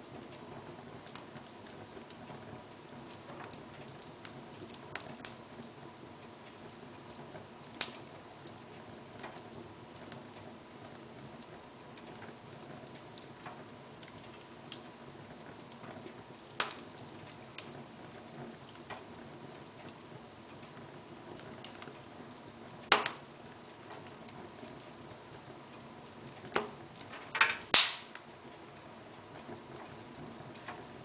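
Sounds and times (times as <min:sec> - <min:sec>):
fire popping: 0:00.0 - 0:31.0
log fire crackling and hissing: 0:00.0 - 0:31.0.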